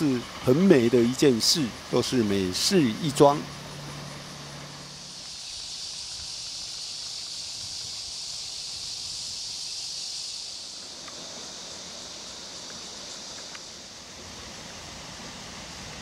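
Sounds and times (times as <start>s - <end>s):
cicada drone: 0.0s - 16.0s.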